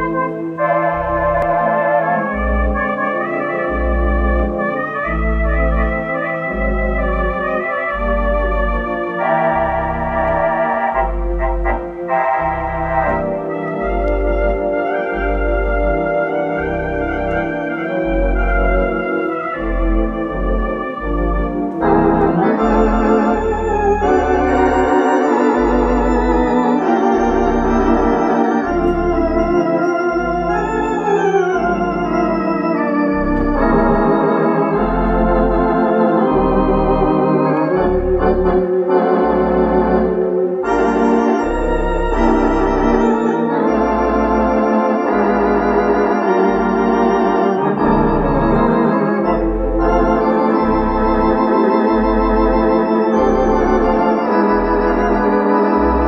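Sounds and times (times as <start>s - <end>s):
organ pedal bass notes: 0.0s - 56.0s
theatre organ playing: 0.0s - 56.0s.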